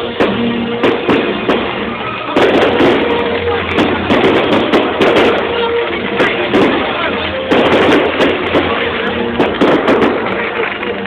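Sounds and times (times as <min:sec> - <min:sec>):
fireworks bangs and crackles: 0:00.0 - 0:11.0
music with held notes: 0:00.0 - 0:11.0.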